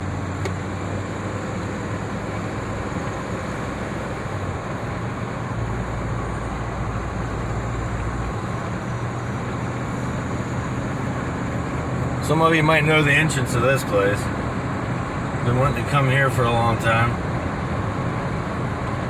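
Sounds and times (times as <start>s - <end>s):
road and tyre noise: 0.0s - 19.0s
vehicle engine drone: 0.0s - 19.0s.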